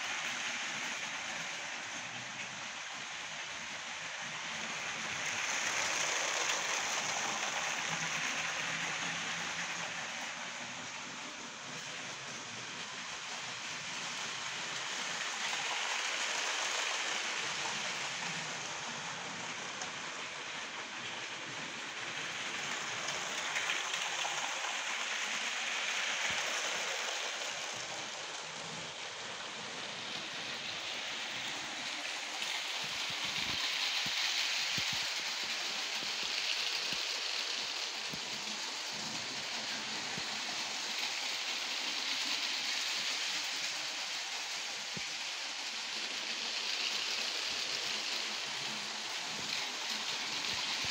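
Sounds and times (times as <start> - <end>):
toy trains whirring on track: 0.0 - 50.9.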